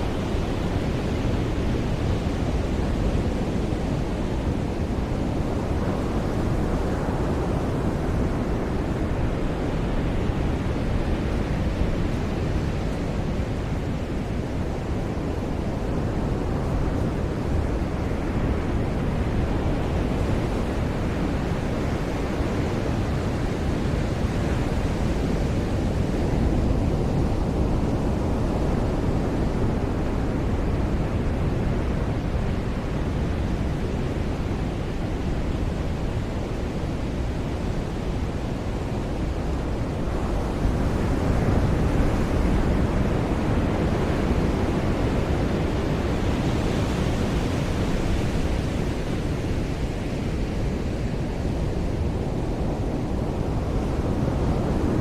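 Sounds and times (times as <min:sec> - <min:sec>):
waves washing onto beach: 0:00.0 - 0:55.0.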